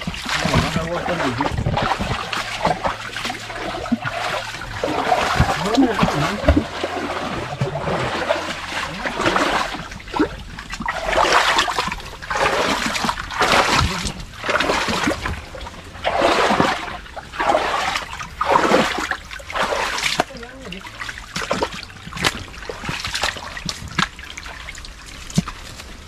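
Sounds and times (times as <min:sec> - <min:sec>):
water splashing: 0:00.0 - 0:26.0.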